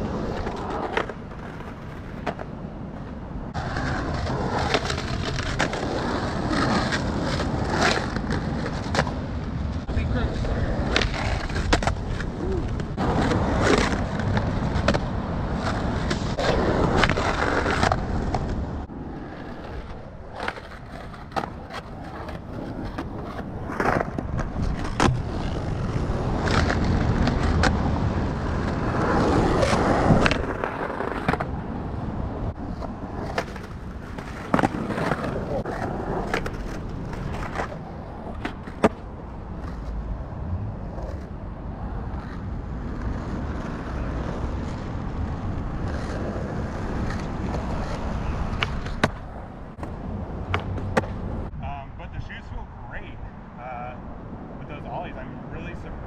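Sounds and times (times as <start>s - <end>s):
skateboard scraping along curb: 0.0s - 51.6s
skateboard wheels rolling on asphalt: 0.0s - 56.0s
skateboard clacks: 0.2s - 18.7s, 19.3s - 31.6s, 32.5s - 40.0s, 42.0s - 51.5s.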